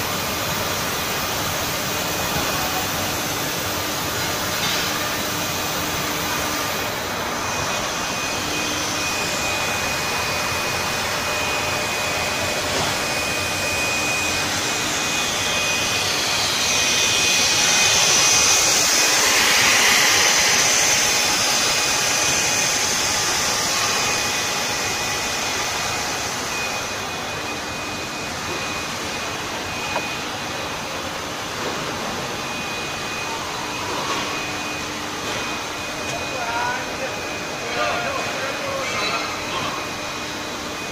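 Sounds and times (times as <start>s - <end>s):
machine noise with high whine: 0.0s - 40.9s.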